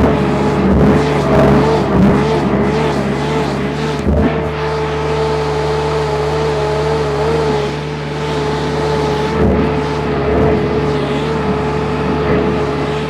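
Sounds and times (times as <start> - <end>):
constant whine: 0.0 - 13.0
diesel engine running: 0.0 - 13.0.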